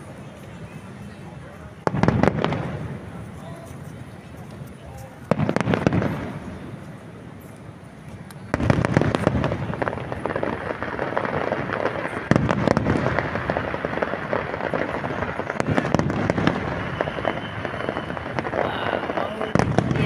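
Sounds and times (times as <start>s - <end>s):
fireworks crackle: 0.0s - 20.0s.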